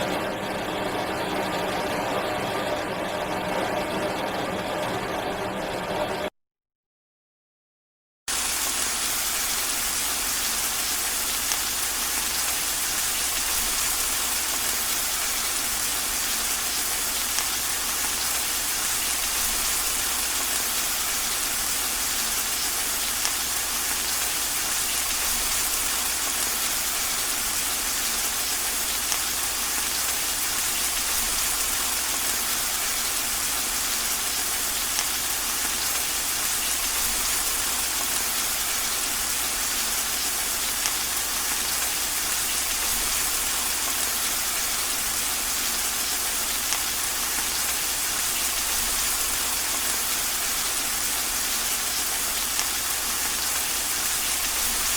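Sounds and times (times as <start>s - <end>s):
steady rain falling: 8.3s - 54.9s.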